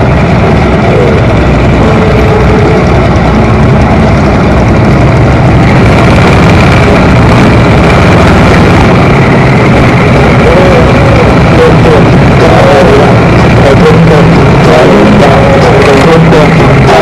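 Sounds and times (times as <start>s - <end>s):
low road rumble: 0.0s - 17.0s
motorcycle engine running: 0.0s - 17.0s.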